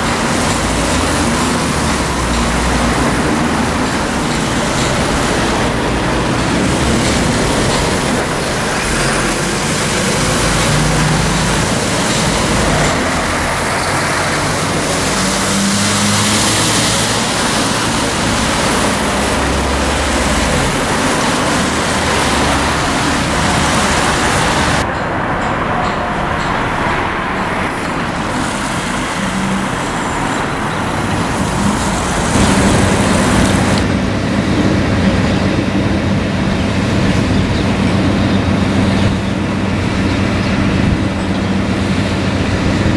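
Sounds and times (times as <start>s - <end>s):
diesel engine drone: 0.0s - 42.9s
diesel excavators: 0.0s - 42.9s
road traffic: 0.0s - 42.9s.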